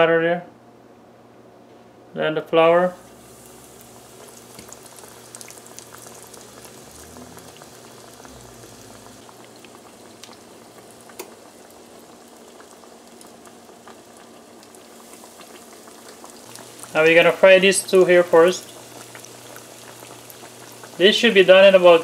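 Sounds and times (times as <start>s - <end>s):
fish cakes sizzling in oil: 3.0s - 22.0s
oil popping and crackling: 3.0s - 22.0s.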